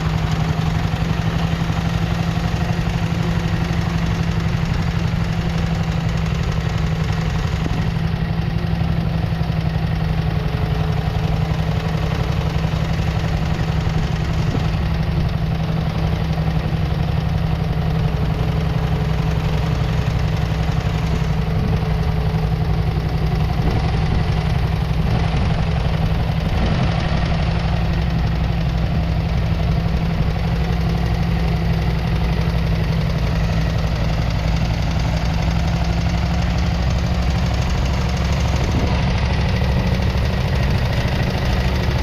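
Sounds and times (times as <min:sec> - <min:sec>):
single-cylinder engine running: 0:00.0 - 0:42.0.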